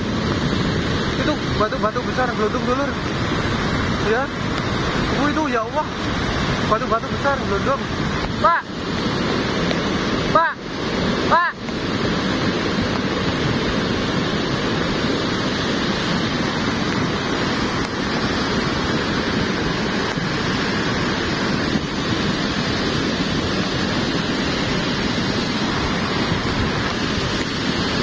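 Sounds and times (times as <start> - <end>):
mud torrent roaring: 0.0 - 28.0.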